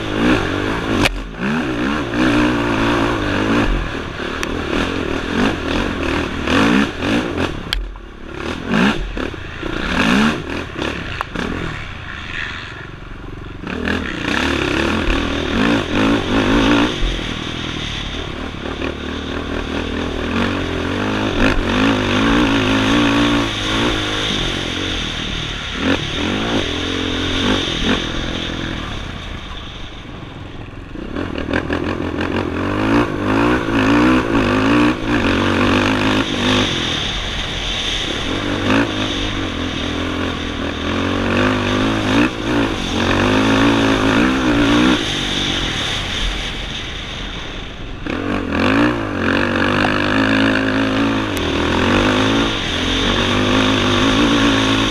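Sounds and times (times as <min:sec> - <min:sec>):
off-road engine revving: 0:00.0 - 0:54.9.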